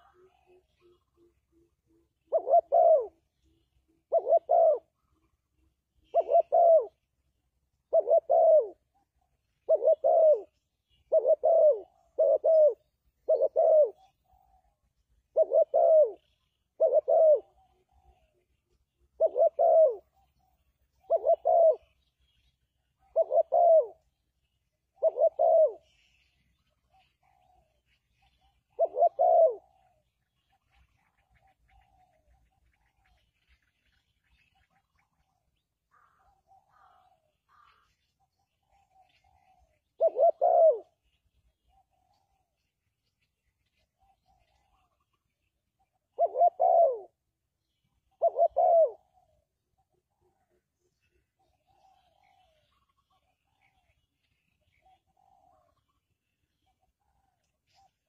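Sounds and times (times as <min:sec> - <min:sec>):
dove cooing: 0:00.0 - 0:22.4, 0:23.0 - 0:24.2, 0:24.8 - 0:33.7, 0:34.4 - 0:42.5, 0:43.9 - 0:58.0.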